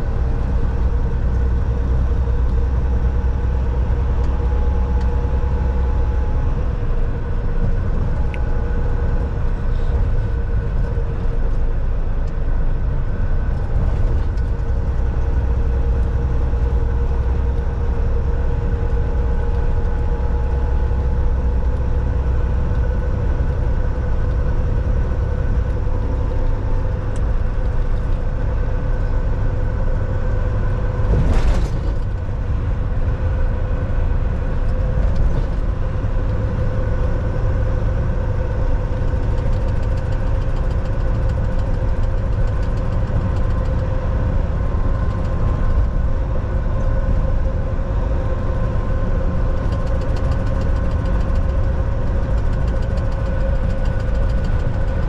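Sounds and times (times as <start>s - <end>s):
road rumble: 0.0s - 55.0s
truck diesel engine droning: 0.0s - 55.0s.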